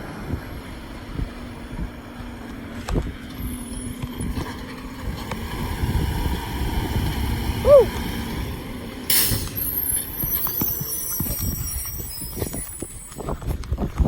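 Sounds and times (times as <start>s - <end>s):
garbage truck engine running: 0.0s - 13.4s
wind on microphone: 0.0s - 14.0s.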